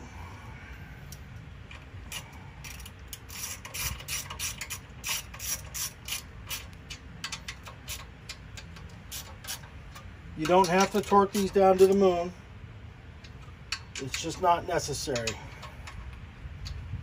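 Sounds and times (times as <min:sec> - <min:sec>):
hand ratchet clicking: 0:01.7 - 0:12.1, 0:13.2 - 0:16.9.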